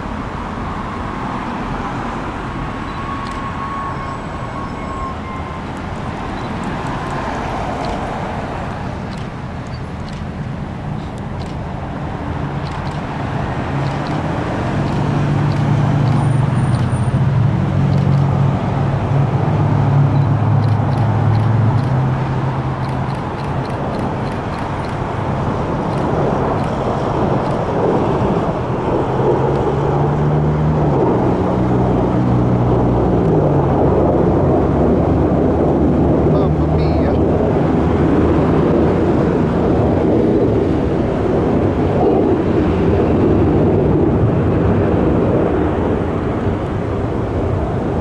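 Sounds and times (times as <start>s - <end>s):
broad traffic rumble: 0.0s - 48.0s
vehicle engines running: 0.0s - 48.0s.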